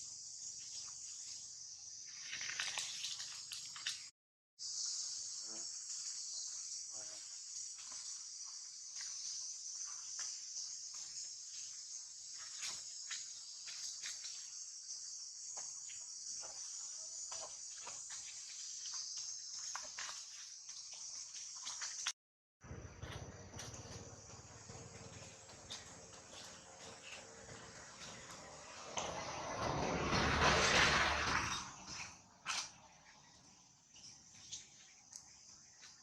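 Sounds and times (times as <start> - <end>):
insects chirping: 0.0 - 36.0.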